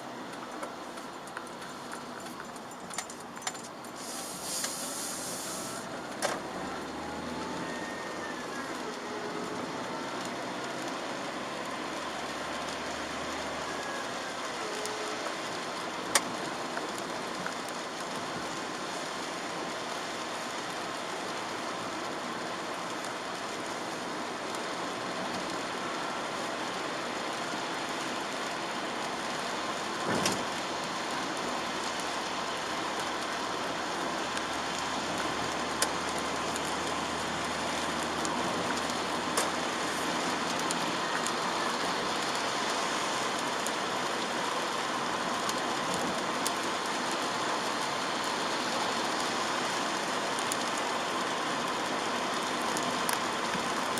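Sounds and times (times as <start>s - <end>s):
rain hiss: 0.0s - 53.9s
wet road noise: 0.0s - 53.9s.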